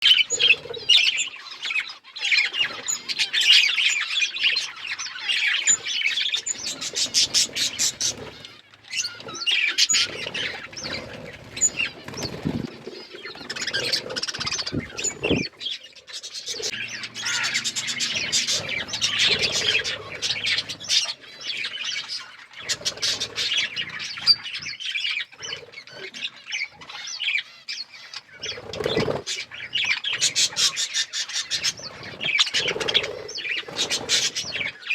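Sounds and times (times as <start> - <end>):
birds chirping and chattering: 0.0 - 34.9.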